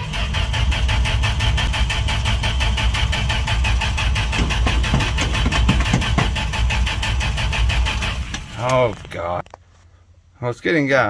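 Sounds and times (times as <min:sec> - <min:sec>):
starter motor cranking engine: 0:00.0 - 0:09.2.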